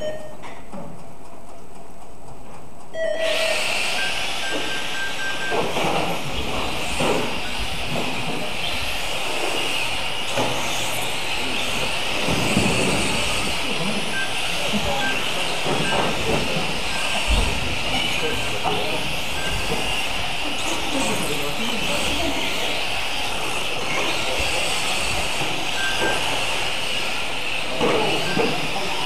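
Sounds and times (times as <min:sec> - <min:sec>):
electric toy cars whining: 0:03.0 - 0:29.0.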